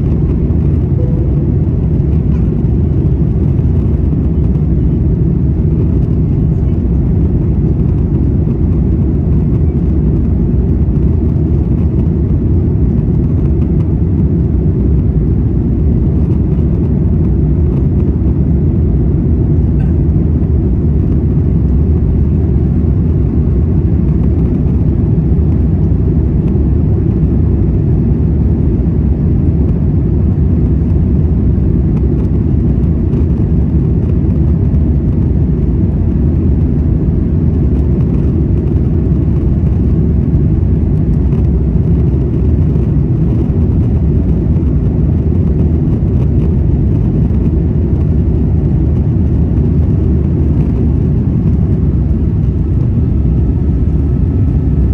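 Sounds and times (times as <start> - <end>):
aircraft engines rumbling: 0.0 - 54.9
rushing air in cabin: 0.0 - 54.9.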